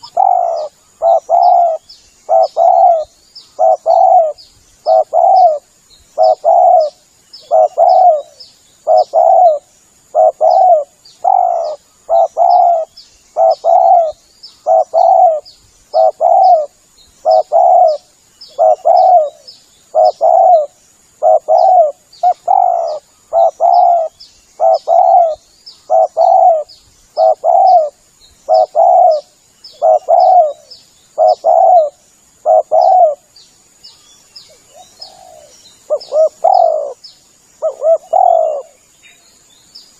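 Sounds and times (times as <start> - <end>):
dove cooing: 0.0 - 33.3, 34.5 - 37.0, 37.6 - 38.8
small birds chirping: 0.0 - 39.9.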